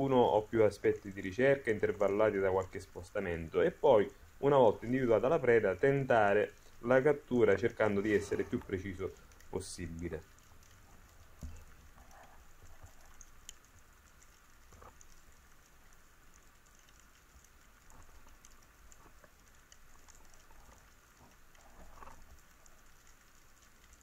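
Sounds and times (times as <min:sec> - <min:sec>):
low underwater hiss: 0:00.0 - 0:24.0
small clicks and crackles: 0:00.0 - 0:24.0.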